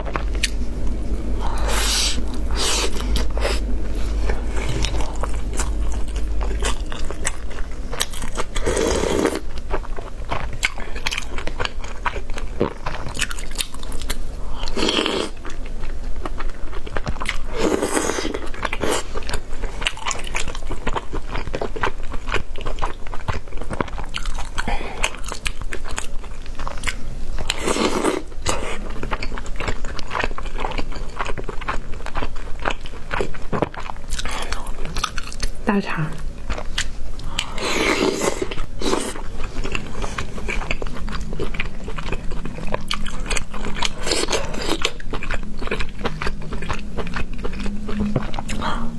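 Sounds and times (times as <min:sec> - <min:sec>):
person chewing: 0:00.0 - 0:35.6, 0:36.4 - 0:48.9.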